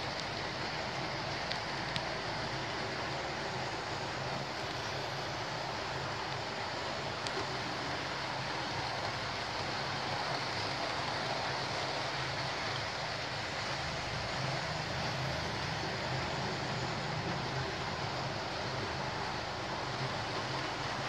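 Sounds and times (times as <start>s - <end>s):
model trains running on track: 0.0s - 21.0s.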